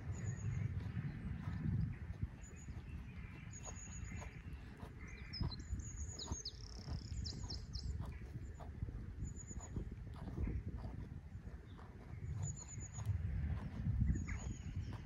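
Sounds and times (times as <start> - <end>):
deer chewing grass: 0.0 - 15.0
small birds chirping: 0.0 - 15.0.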